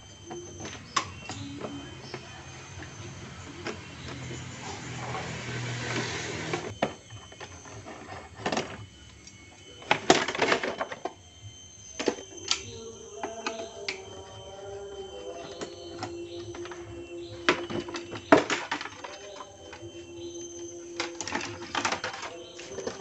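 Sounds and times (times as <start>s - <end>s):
faint steady tones: 0.0s - 23.0s.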